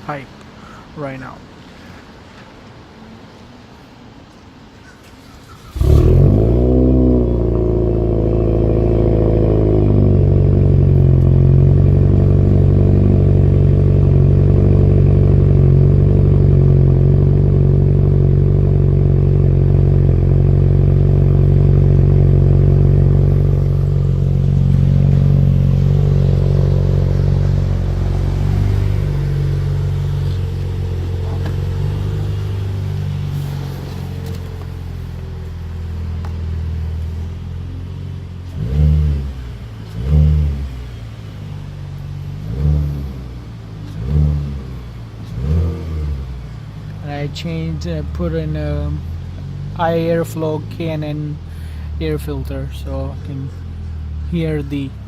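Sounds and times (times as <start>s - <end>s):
car engine starting and idling: 4.2s - 55.0s.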